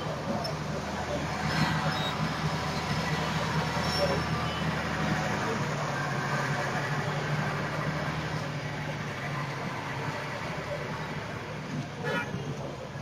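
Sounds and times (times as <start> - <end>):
traffic engines and road noise: 0.0 - 13.0.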